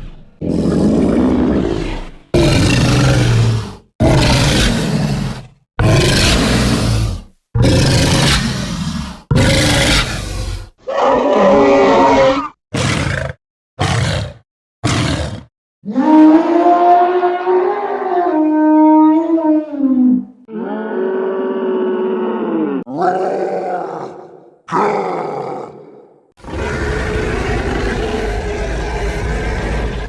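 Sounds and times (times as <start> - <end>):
creature pitched bellow: 0.0 - 30.0
dinosaur creature roars: 0.0 - 30.0.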